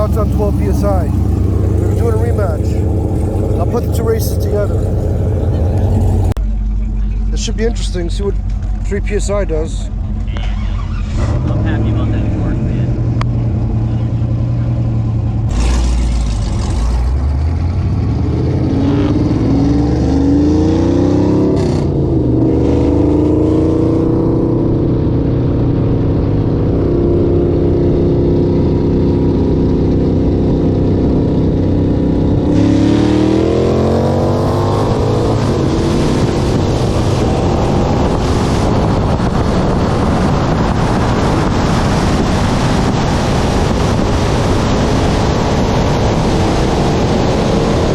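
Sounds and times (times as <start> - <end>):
wind noise: 0.0 - 6.4, 15.2 - 47.9
car engines pulling hard: 0.0 - 47.9.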